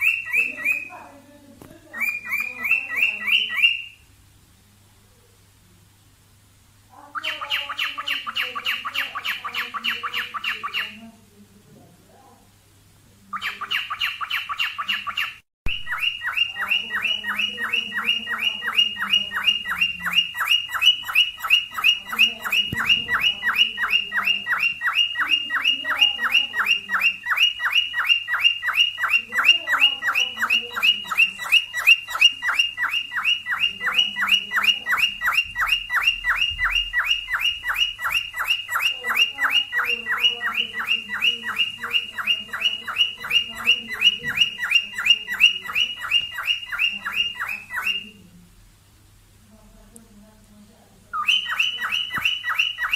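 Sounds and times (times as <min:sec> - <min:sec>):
cockatiel chirping: 0:00.0 - 0:01.1, 0:01.8 - 0:04.0, 0:07.1 - 0:11.1, 0:13.3 - 0:48.3, 0:51.1 - 0:52.9
fuller cockatiel call: 0:00.0 - 0:01.1, 0:01.9 - 0:04.0, 0:07.1 - 0:11.1, 0:13.3 - 0:48.3, 0:51.1 - 0:52.9.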